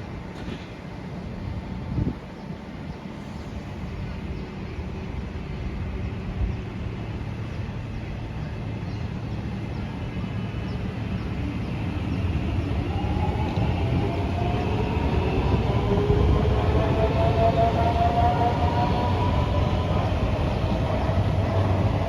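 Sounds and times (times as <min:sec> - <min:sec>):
metro train rumble: 0:00.0 - 0:22.0.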